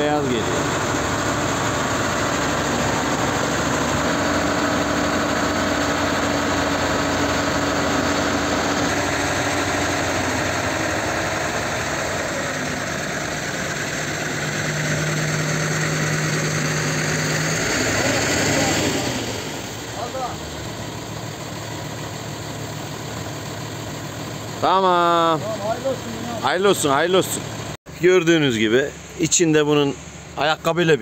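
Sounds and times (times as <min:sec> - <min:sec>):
crane engine humming: 0:00.0 - 0:31.0.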